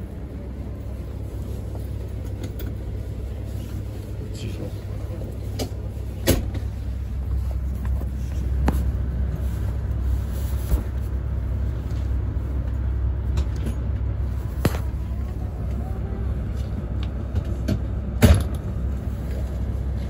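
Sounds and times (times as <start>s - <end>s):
train cabin rumble: 0.0s - 20.0s.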